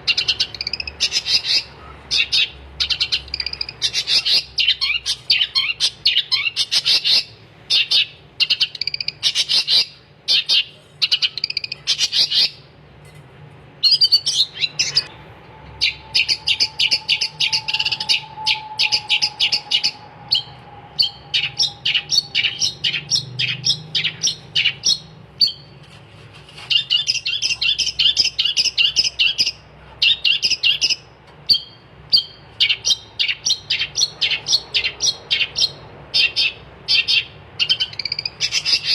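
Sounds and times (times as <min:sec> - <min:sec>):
bird singing high chirps: 0:00.0 - 0:12.7, 0:13.8 - 0:25.8, 0:26.7 - 0:38.9.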